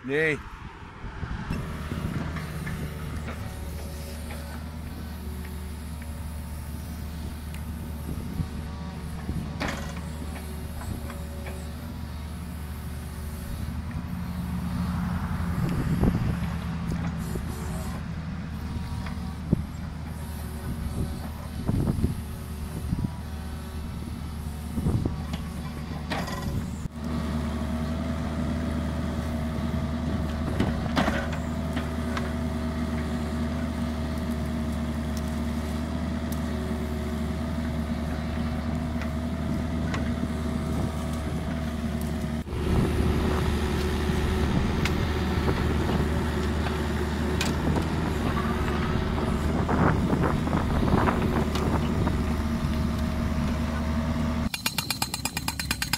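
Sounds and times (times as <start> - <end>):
excavator engine with whine: 0.0 - 55.9.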